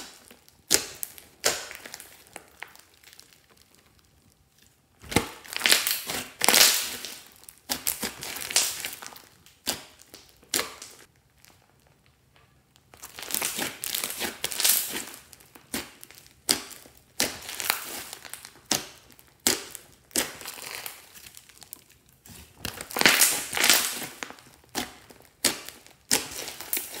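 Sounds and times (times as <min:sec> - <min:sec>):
slime squishing and crackling: 0:00.0 - 0:27.0.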